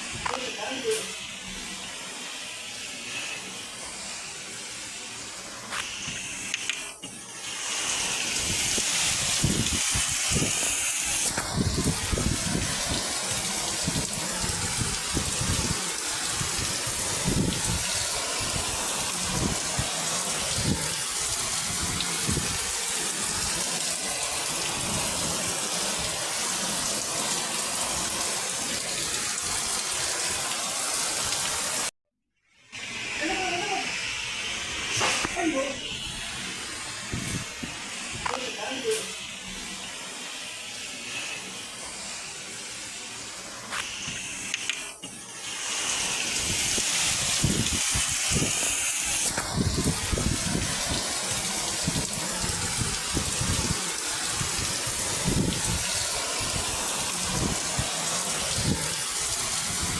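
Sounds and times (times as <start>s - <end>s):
heavy rain pouring: 0.0s - 31.9s, 32.7s - 59.9s.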